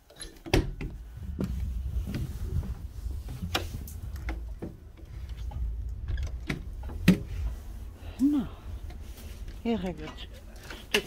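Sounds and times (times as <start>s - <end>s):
wind rumble on microphone: 0.6s - 10.6s.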